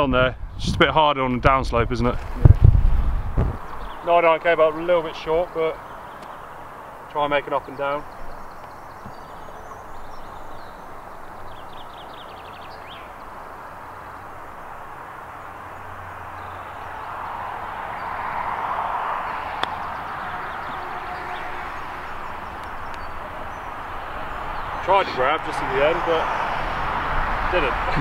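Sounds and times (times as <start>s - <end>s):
steady outdoor rushing noise: 0.0s - 28.0s
birds chirping: 1.5s - 28.0s.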